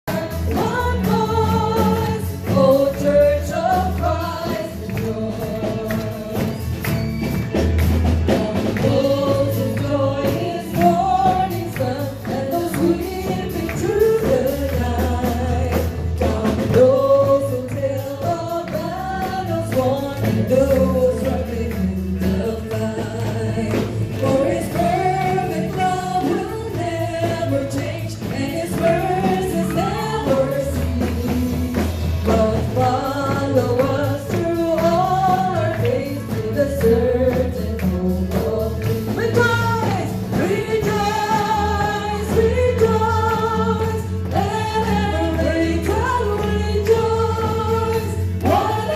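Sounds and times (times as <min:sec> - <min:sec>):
band with bass and percussion: 0:00.0 - 0:48.9
people singing worship song: 0:00.0 - 0:48.9.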